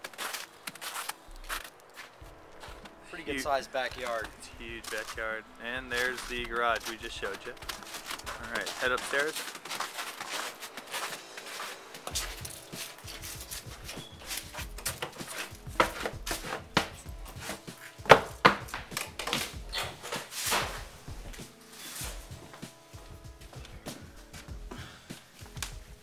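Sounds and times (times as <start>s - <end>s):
footsteps on stairs: 0.0s - 3.0s, 5.8s - 26.0s.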